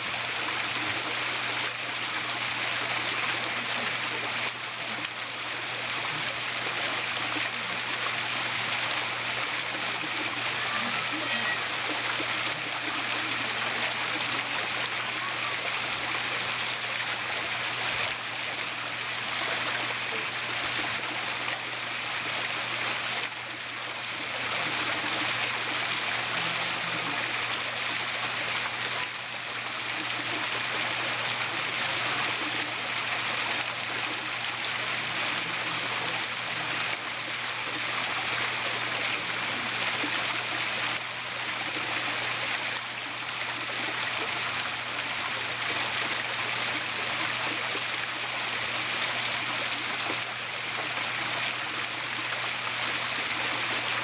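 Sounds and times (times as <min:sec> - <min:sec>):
waterfall splashing over rocks: 0:00.0 - 0:54.0.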